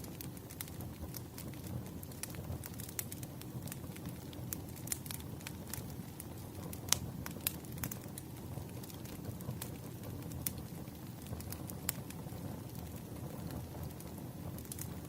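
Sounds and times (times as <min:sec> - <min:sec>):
flames rushing: 0:00.0 - 0:15.0
wood crackling and popping: 0:00.0 - 0:15.0.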